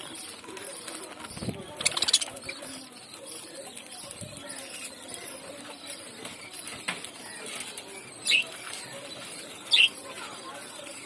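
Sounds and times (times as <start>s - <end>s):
birds rustling and pecking: 0.0s - 11.0s.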